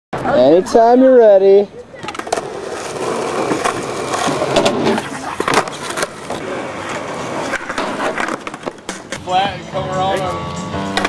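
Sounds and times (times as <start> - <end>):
skateboard wheels rolling on concrete: 0.2 - 11.0
skateboard clacks: 2.0 - 11.0.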